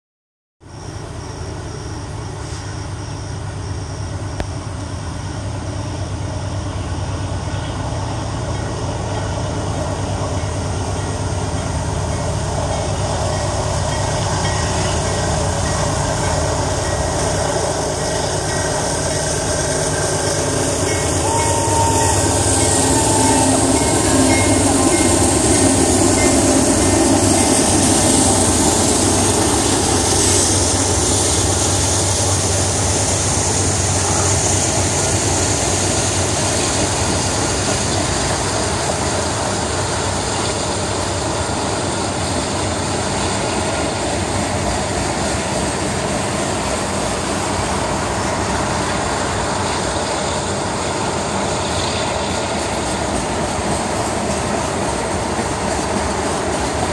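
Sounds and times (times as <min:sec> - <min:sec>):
diesel locomotive engine rumble: 0:00.6 - 0:56.9
freight cars rolling past: 0:00.7 - 0:56.9.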